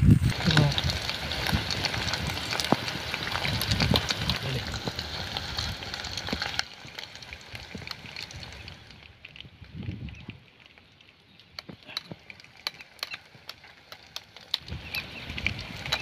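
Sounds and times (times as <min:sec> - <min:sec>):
fish sizzling in hot oil: 0:00.0 - 0:09.8, 0:10.6 - 0:16.0.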